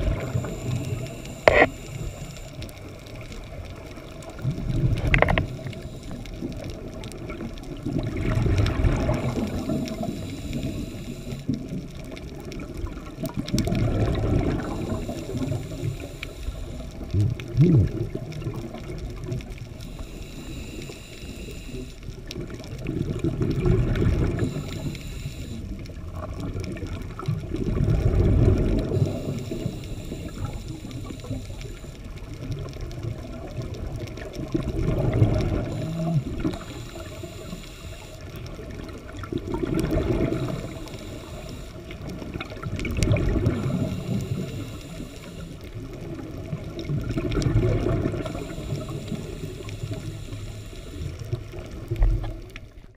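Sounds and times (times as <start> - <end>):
diver's exhaled bubbles gurgling: 0.0 - 20.6, 21.2 - 52.9
underwater wash: 0.0 - 52.9.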